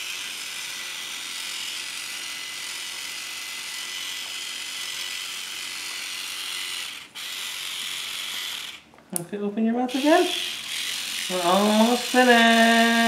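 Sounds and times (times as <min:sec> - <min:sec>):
electric toothbrush whirring: 0:00.0 - 0:08.9, 0:09.9 - 0:13.0.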